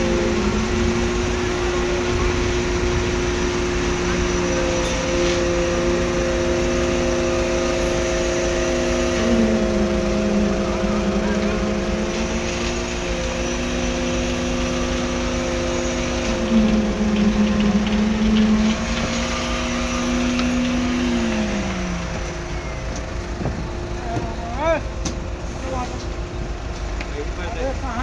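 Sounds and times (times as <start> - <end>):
concrete pump engines running: 0.0 - 28.0.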